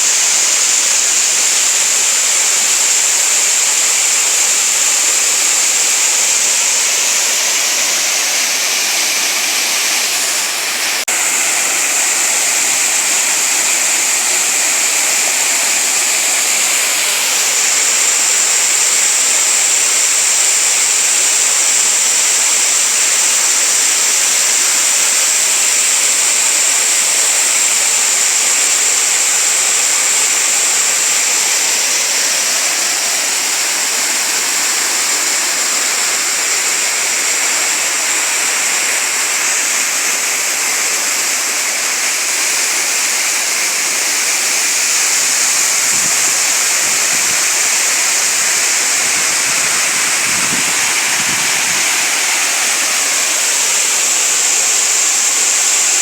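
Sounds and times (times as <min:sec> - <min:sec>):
waterfalls and stream splashing: 0:00.0 - 0:56.0.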